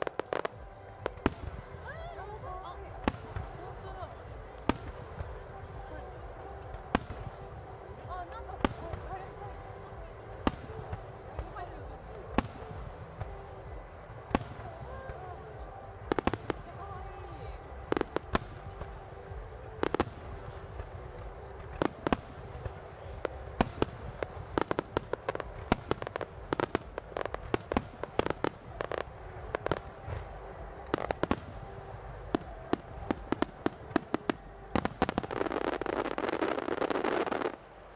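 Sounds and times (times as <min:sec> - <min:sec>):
fireworks bursting: 0:00.0 - 0:37.9.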